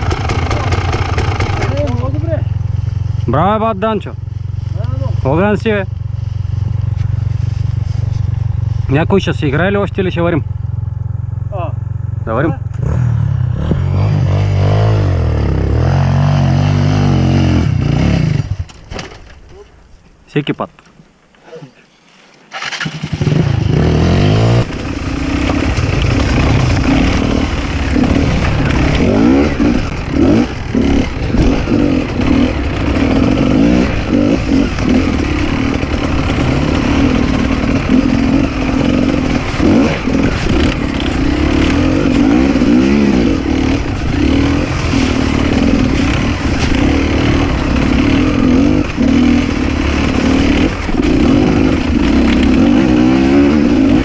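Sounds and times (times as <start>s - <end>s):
dirt bike engine revving: 0.0s - 18.7s, 22.5s - 54.0s.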